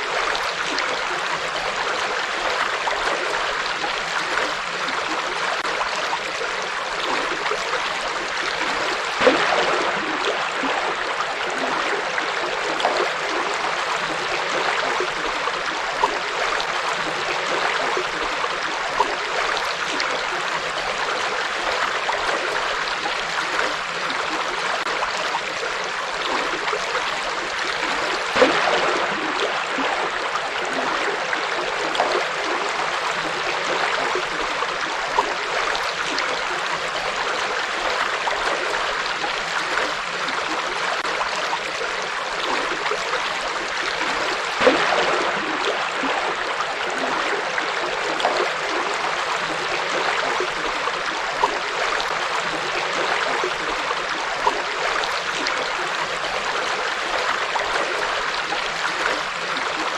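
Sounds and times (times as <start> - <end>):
river flowing over stones: 0.0 - 59.9
small water splashes: 0.0 - 59.9.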